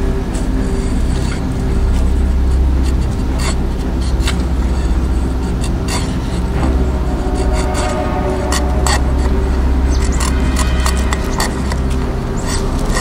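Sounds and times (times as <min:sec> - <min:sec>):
background music with bass drone: 0:00.0 - 0:13.0.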